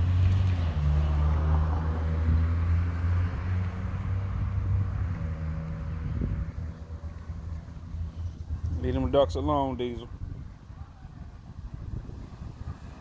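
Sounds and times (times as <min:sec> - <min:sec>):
car engine hum: 0:00.0 - 0:10.9.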